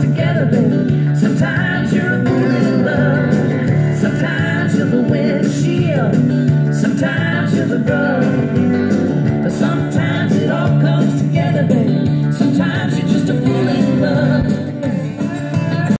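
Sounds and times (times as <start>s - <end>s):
country-rock song with guitar and singing: 0.0s - 15.9s.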